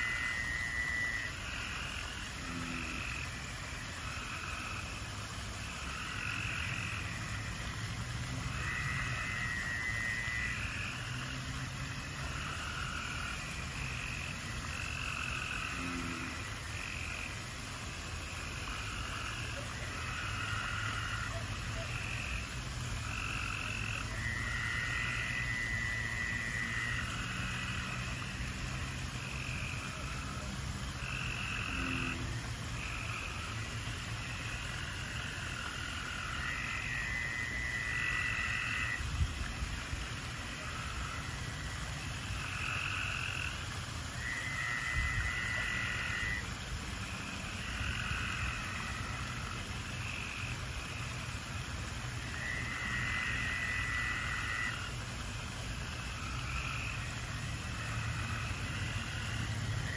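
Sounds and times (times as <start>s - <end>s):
frogs calling: 0.0s - 59.9s.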